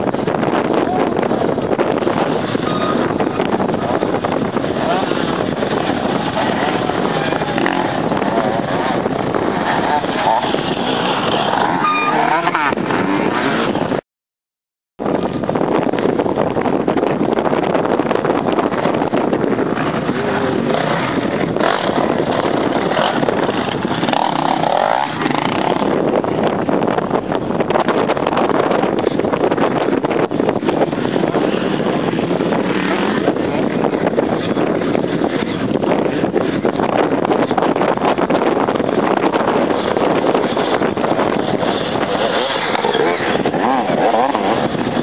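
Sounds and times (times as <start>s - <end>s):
dirt bike engines revving: 0.0s - 14.0s, 15.2s - 45.0s.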